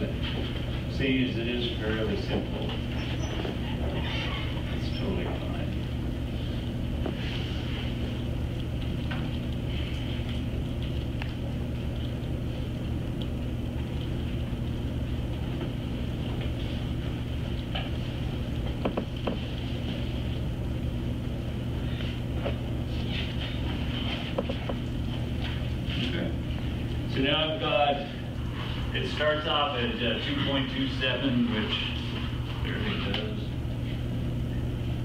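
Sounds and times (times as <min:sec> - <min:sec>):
low machine drone: 0:00.0 - 0:35.0.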